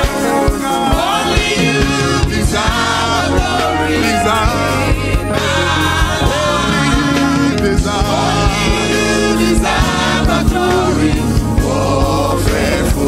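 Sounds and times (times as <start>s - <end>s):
band playing steady beat: 0.0s - 13.0s
voices singing gospel: 0.0s - 13.0s.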